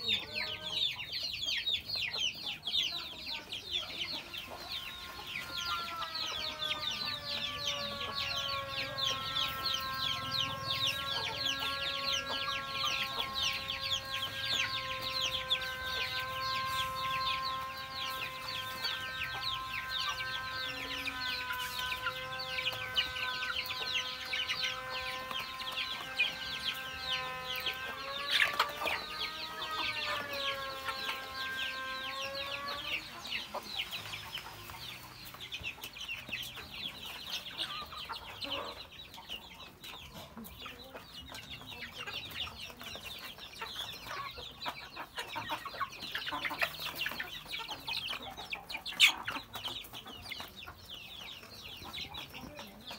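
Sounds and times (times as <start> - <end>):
chicks peeping and cheeping: 0.0 - 52.9.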